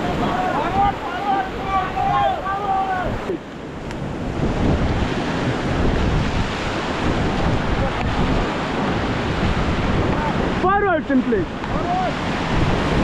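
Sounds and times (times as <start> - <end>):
river rapid rushing and splashing: 0.0 - 13.0
wind buffeting microphone: 0.0 - 13.0.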